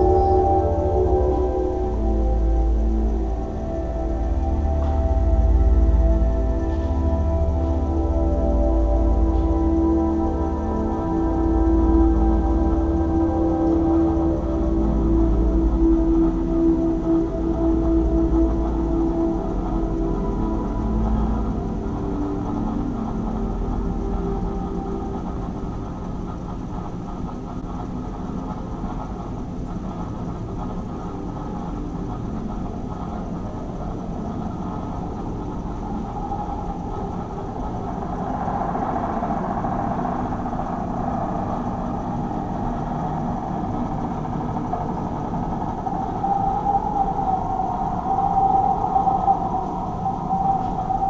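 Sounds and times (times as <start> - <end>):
higher hum: 0.0 - 51.0
rumbling electronic drone: 0.0 - 51.0.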